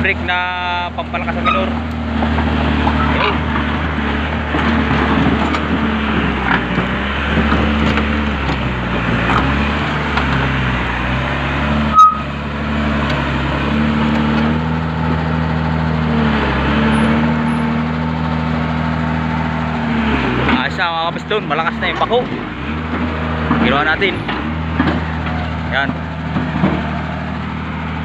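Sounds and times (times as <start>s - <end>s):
backhoe engine idling: 0.0s - 28.0s.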